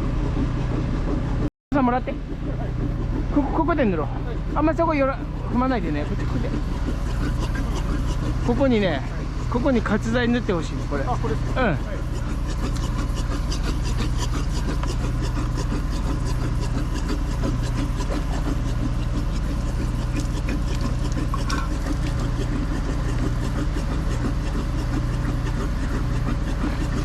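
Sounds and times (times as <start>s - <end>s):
brush scraping on pipe: 2.4s - 27.0s.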